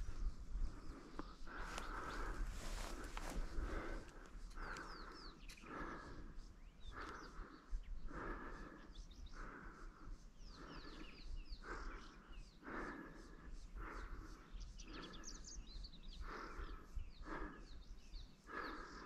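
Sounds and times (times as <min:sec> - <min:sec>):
person breathing hard: 0:00.0 - 0:19.0
small birds chirping: 0:00.0 - 0:19.0.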